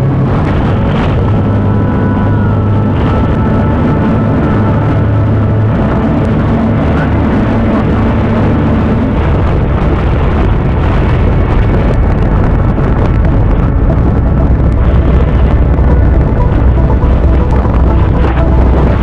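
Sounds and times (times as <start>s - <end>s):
boat engine hum: 0.0s - 19.0s
wind and water rushing: 0.0s - 19.0s.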